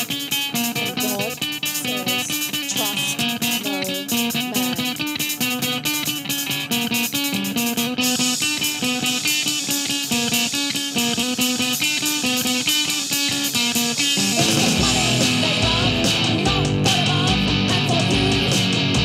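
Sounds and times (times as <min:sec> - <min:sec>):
drum kit: 0:00.0 - 0:19.0
electric guitar riff: 0:00.0 - 0:19.0.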